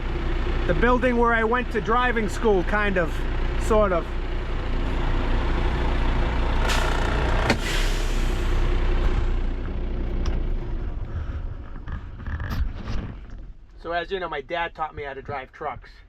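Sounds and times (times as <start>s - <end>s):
diesel truck engine rumble: 0.0s - 16.0s.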